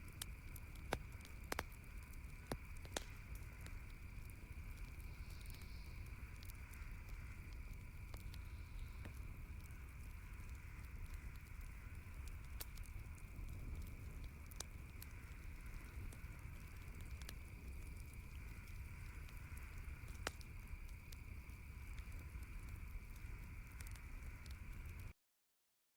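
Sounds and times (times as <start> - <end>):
campfire crackling and popping: 0.0 - 25.1.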